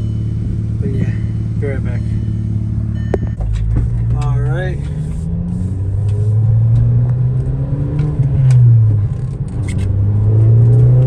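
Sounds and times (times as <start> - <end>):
car engine pulling: 0.0 - 11.0.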